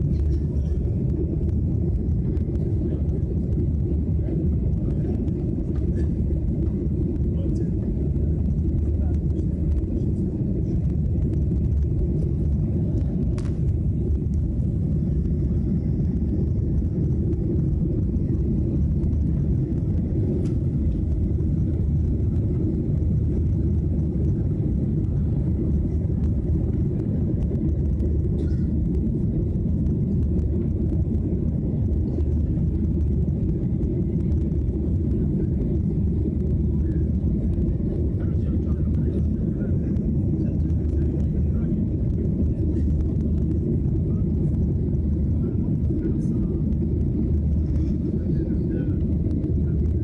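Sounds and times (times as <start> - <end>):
jet engines rumbling in cabin: 0.0 - 50.0.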